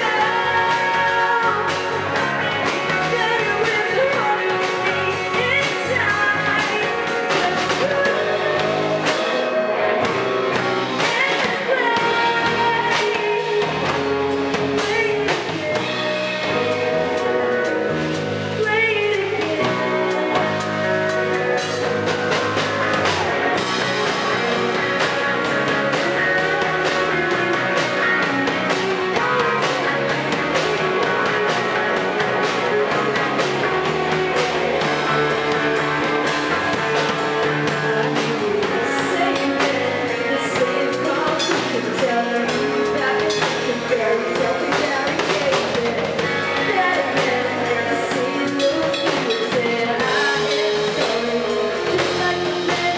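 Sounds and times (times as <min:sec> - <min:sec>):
bass guitar: 0:00.0 - 0:52.9
drum kit: 0:00.0 - 0:52.9
electric guitars: 0:00.0 - 0:52.9
person singing: 0:00.0 - 0:52.9.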